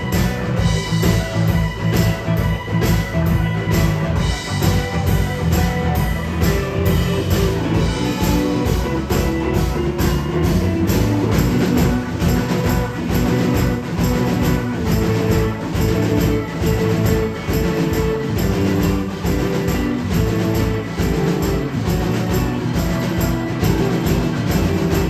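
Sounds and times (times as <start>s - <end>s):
blues-rock band playing: 0.0s - 25.0s
drum kit steady beat: 0.0s - 25.0s.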